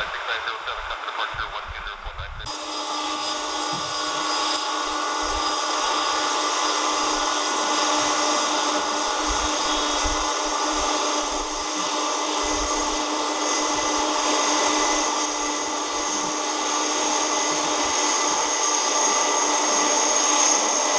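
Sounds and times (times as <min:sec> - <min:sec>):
jet engines taxiing: 0:00.0 - 0:20.9
turbine whine: 0:00.0 - 0:20.9.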